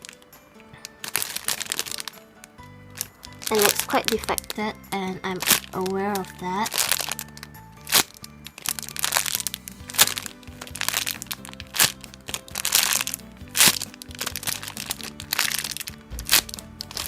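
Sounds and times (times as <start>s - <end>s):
plastic packaging crinkling: 0.0s - 17.0s
soft background music: 0.0s - 17.0s.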